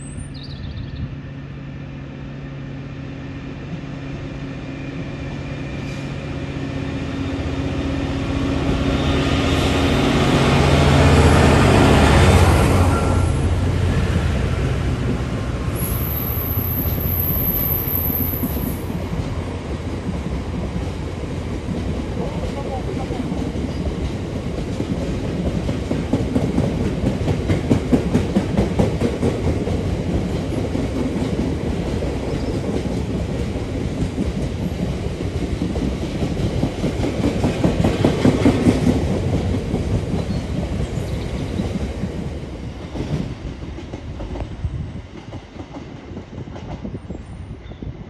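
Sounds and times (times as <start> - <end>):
train wheels rumbling over rails: 0.1 - 48.0.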